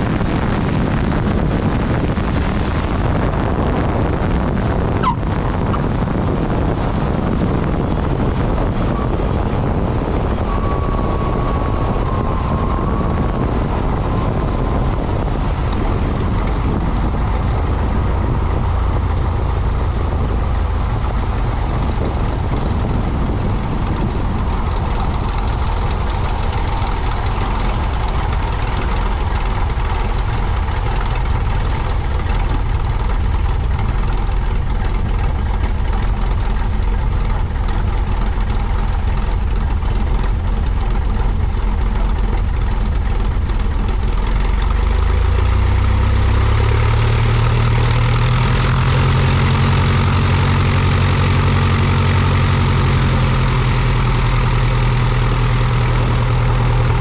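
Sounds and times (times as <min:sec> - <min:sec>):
propeller plane engine running: 0:00.0 - 0:57.0.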